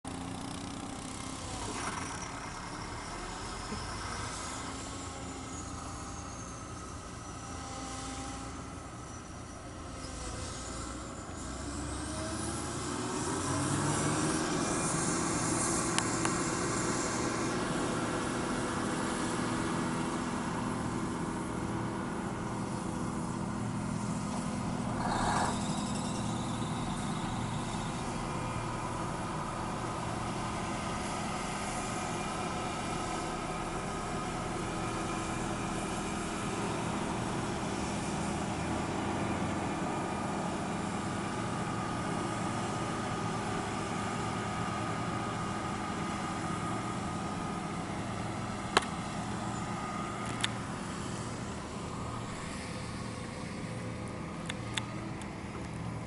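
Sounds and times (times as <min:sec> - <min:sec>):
harvester engine running: 0:00.1 - 0:07.4, 0:11.1 - 0:56.0.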